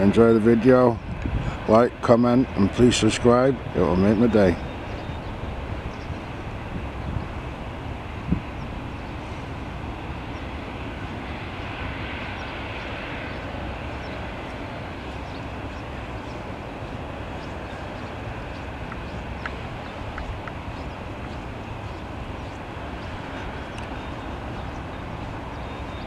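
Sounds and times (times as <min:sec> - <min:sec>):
jet engines rumbling at takeoff: 0:00.0 - 0:26.0.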